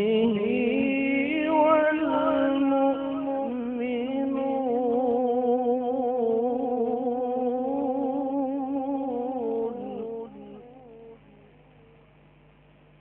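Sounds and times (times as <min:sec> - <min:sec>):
man reciting melodically: 0:00.0 - 0:10.8.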